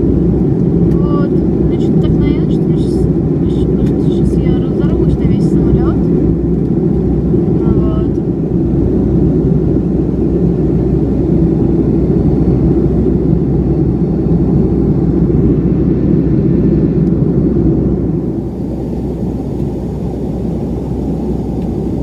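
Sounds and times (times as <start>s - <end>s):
airliner engine rumble in cabin: 0.0s - 22.0s.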